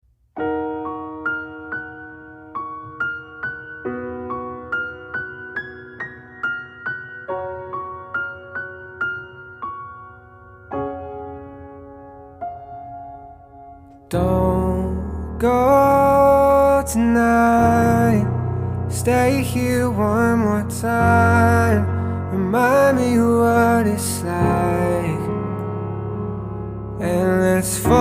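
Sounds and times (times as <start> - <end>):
soft piano music: 0.3 - 28.0.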